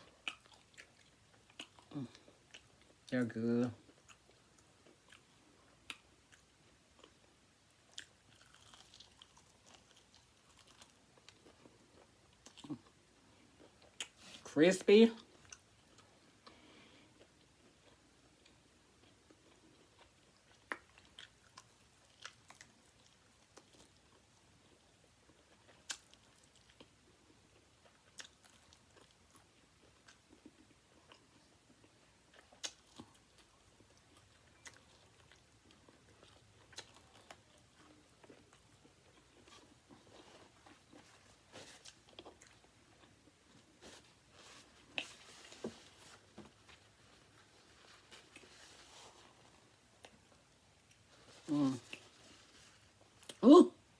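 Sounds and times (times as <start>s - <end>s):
person chewing crispy food: 0.0s - 14.5s, 15.1s - 53.9s.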